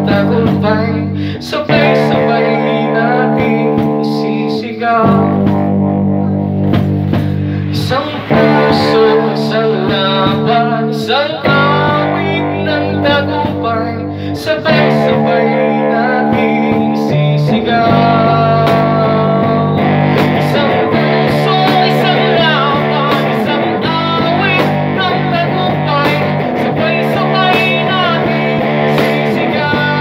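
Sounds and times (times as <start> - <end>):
person singing into microphone: 0.0 - 6.6, 7.4 - 30.0
electric guitar through amplifier: 0.0 - 30.0.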